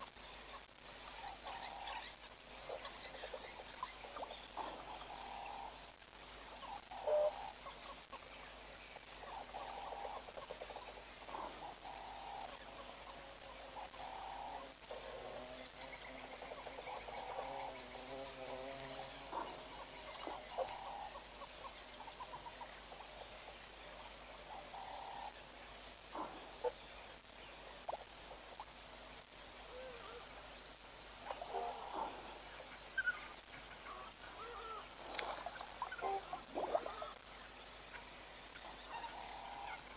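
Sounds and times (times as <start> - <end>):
fainter lower insect calls: 0.0 - 39.9
insect chirping: 0.1 - 39.9.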